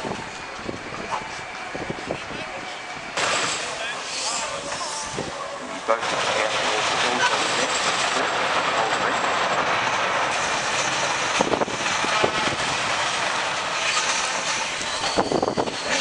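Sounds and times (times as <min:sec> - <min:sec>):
steam engine hissing and clattering: 0:00.0 - 0:16.0.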